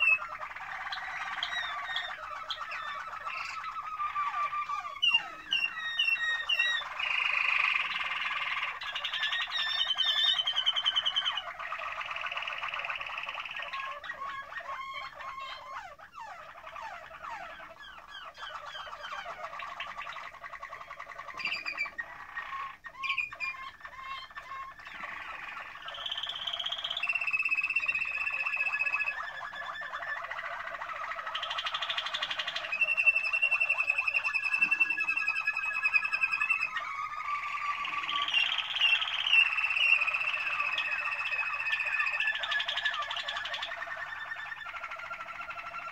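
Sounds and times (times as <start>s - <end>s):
canary singing: 0.0s - 45.9s.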